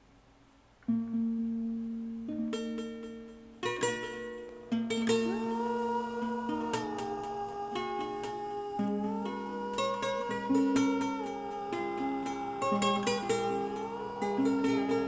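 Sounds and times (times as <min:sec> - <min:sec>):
plucked guitar music: 0:00.8 - 0:15.0.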